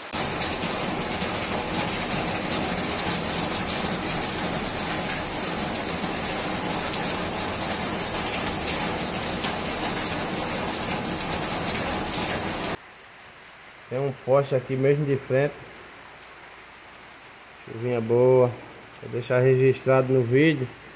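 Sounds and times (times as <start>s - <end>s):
heavy rain pouring: 0.0s - 20.9s
raindrops hitting close by: 0.0s - 20.9s.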